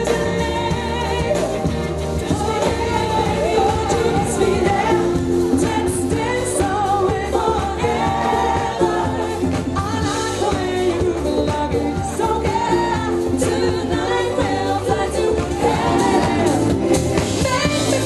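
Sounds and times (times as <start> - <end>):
backing singers: 0.0 - 18.0
drums: 0.0 - 18.0
keyboards: 0.0 - 18.0
woman singing lead: 0.0 - 18.0.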